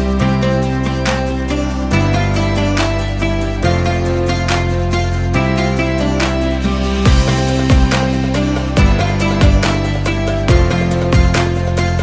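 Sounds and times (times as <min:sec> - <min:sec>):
synth music with steady beat: 0:00.0 - 0:12.0.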